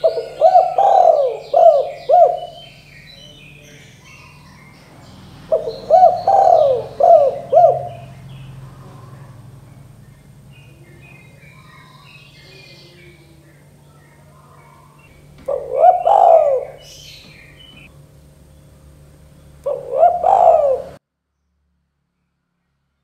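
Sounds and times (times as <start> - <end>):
dove cooing: 0.0 - 17.9, 19.6 - 21.0
faint high chirping: 0.0 - 21.0.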